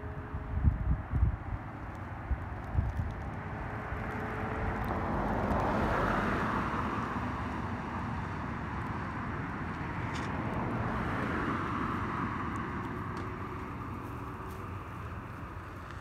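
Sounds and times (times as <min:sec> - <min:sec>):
distant vehicle passing: 0:01.6 - 0:16.0.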